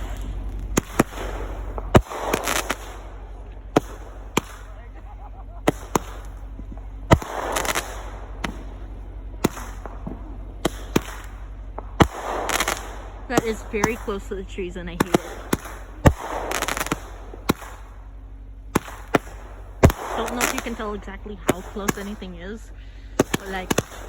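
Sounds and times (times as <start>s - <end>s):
fireworks bangs: 0.0s - 24.0s
fireworks crackling: 0.0s - 24.0s
low steady hum: 0.0s - 24.0s.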